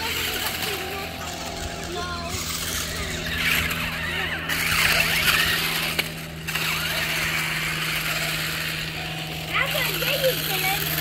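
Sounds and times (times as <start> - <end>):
toy car motor whirring: 0.0 - 11.0.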